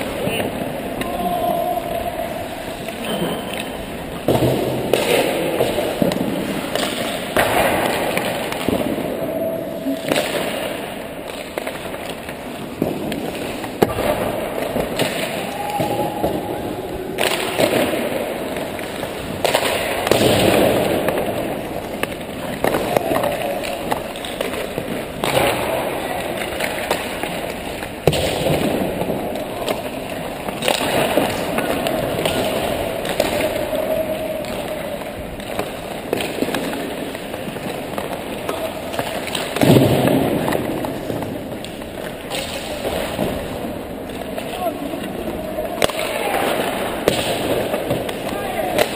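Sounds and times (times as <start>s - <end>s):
pucks hitting boards: 0.0s - 48.9s
skates scraping on ice: 0.0s - 48.9s
sticks striking pucks: 0.0s - 48.9s.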